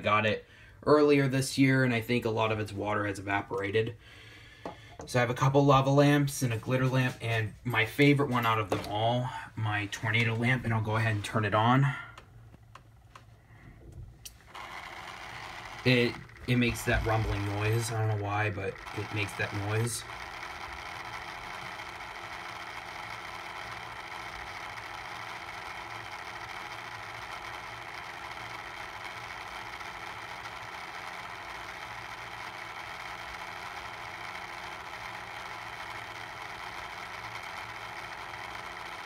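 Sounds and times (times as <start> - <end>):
lamp motor rumbling: 1.2 - 39.0.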